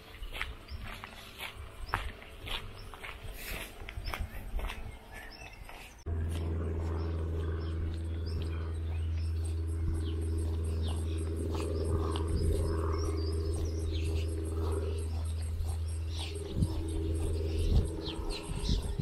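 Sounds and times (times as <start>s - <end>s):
loud steady low hum: 0.0s - 5.4s, 6.0s - 19.0s
birds chirping: 0.0s - 19.0s.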